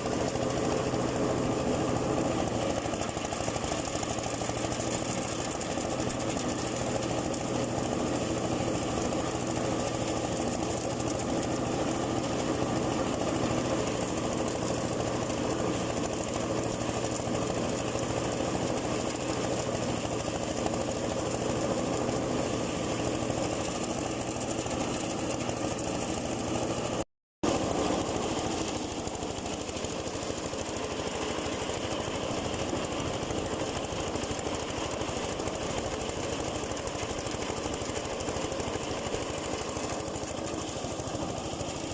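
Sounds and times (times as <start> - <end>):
engine hum: 0.0 - 41.9.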